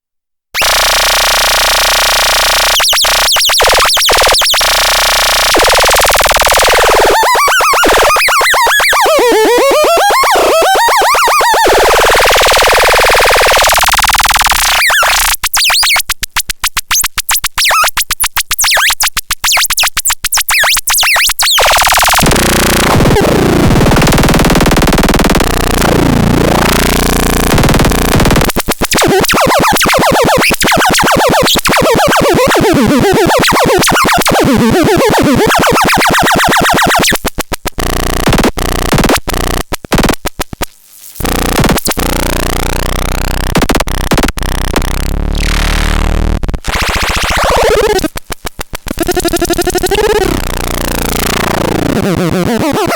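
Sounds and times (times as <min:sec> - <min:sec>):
harsh buzzing synthesizer tones: 0:00.6 - 0:52.9.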